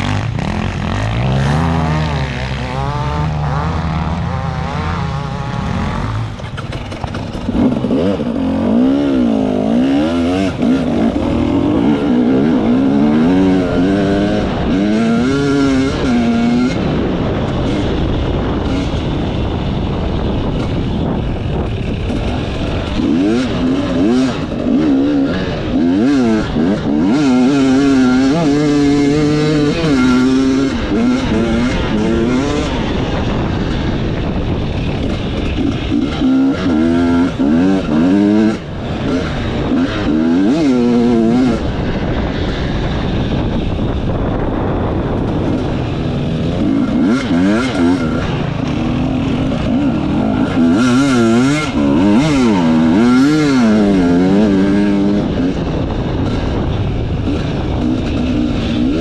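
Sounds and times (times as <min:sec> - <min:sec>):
motorcycle engine revving: 0:00.0 - 0:59.0
steady rush of noise: 0:00.0 - 0:59.0.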